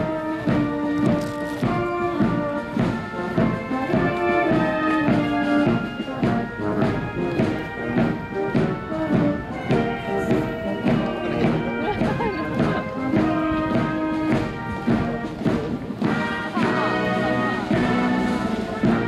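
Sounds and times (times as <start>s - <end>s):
brass marching band: 0.0s - 19.0s
steady drum beat: 0.0s - 19.0s.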